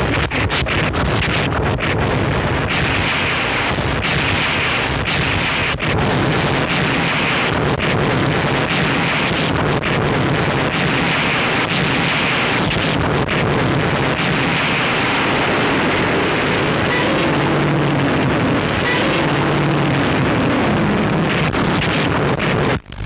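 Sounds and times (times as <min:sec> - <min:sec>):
distorted wall of noise: 0:00.0 - 0:23.0
hissing noise band: 0:00.0 - 0:23.0.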